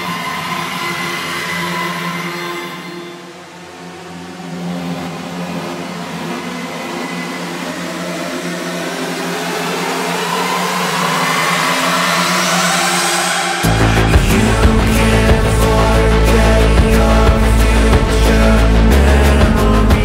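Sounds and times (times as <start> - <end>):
low held synth drone: 0.0 - 20.0
rising synth pitch sweep: 0.0 - 20.0
synthesizer noise riser: 0.0 - 20.0.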